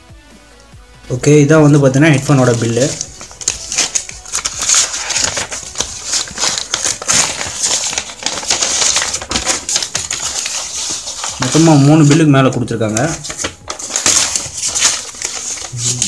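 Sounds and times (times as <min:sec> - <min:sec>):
paper rustling and crinkling: 0:01.6 - 0:16.0.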